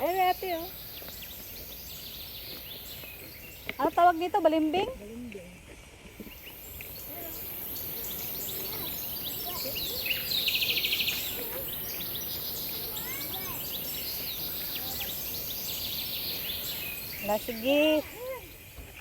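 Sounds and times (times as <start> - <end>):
birds chirping: 0.0 - 19.0
outdoor background hiss: 0.0 - 19.0.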